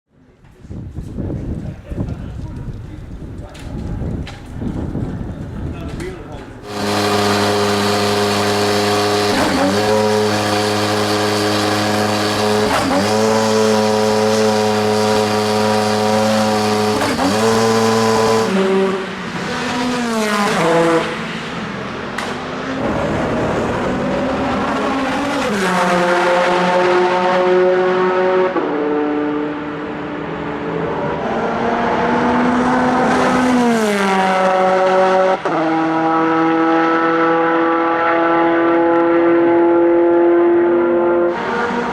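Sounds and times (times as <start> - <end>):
race car engine at high revs: 6.6 - 41.9.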